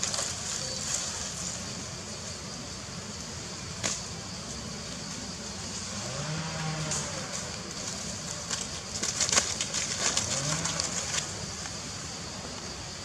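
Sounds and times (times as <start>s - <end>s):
crackles and rustles in dry leaves: 0.0s - 13.0s.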